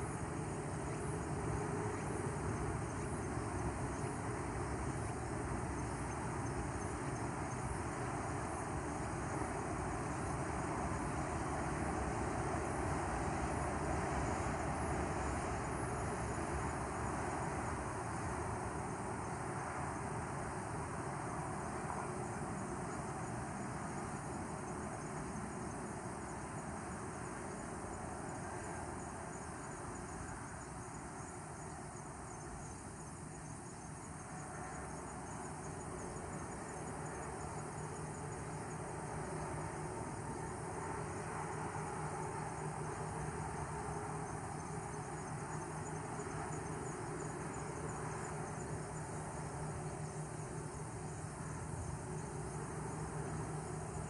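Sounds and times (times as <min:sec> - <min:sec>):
distant traffic hum: 0:00.0 - 0:54.0
insects chirping: 0:00.0 - 0:54.0.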